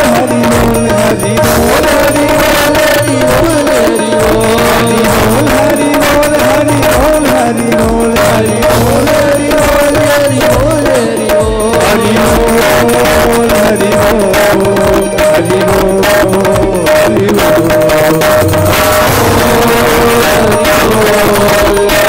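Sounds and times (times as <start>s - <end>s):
gliding melody line: 0.0s - 22.0s
hand drum and percussion: 0.0s - 22.0s.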